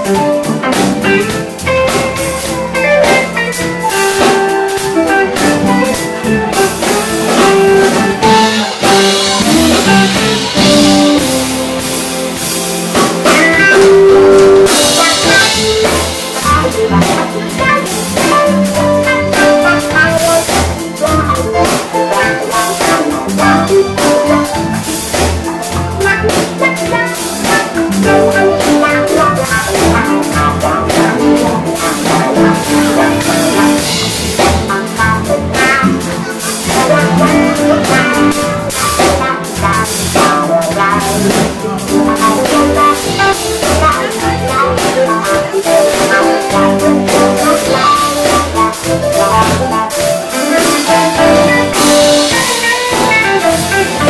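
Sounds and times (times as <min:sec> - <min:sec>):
drum kit: 0:00.0 - 0:54.0
electric bass: 0:00.0 - 0:54.0
electric guitar: 0:00.0 - 0:54.0
keyboard: 0:00.0 - 0:54.0.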